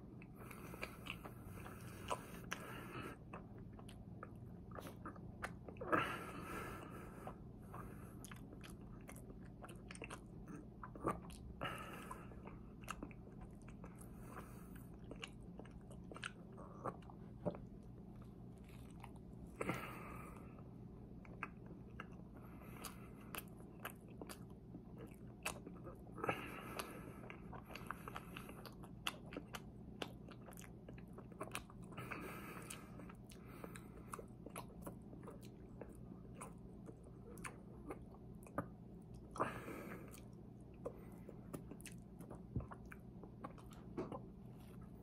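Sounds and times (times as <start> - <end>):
chewing pastry: 0.0 - 45.0.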